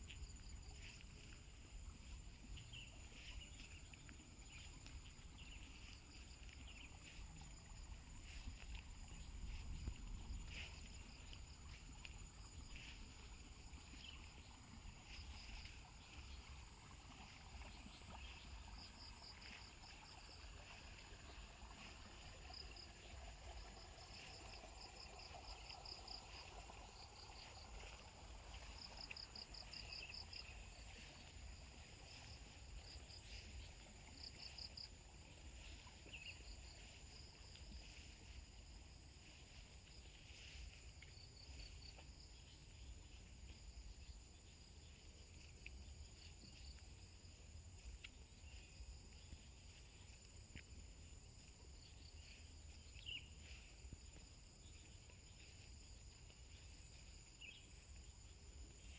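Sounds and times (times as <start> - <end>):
insect chirping trills: 0.0 - 58.9.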